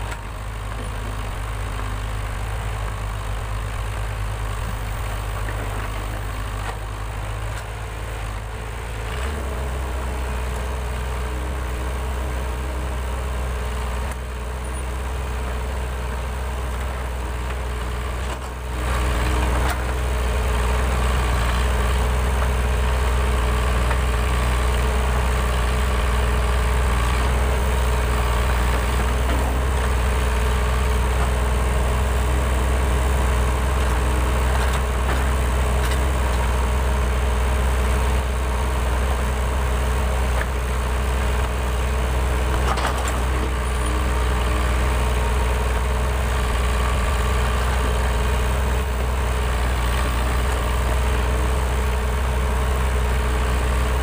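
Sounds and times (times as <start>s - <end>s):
diesel engines droning: 0.0s - 54.0s.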